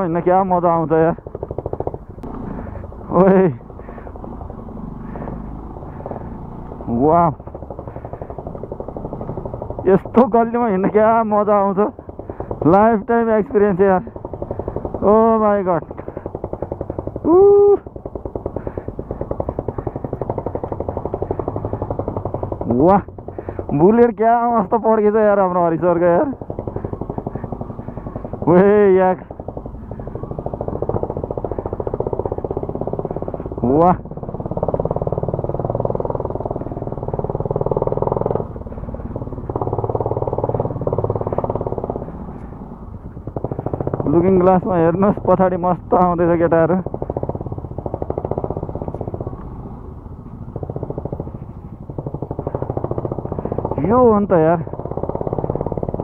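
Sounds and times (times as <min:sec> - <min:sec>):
motorcycle exhaust thumping: 0:00.0 - 0:56.0.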